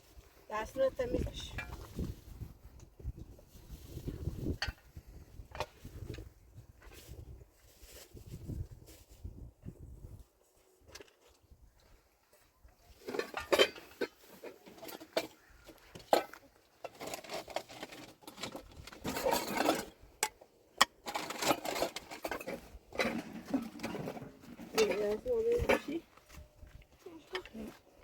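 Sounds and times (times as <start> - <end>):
clattering of things handled: 1.3 - 9.2, 12.7 - 28.0.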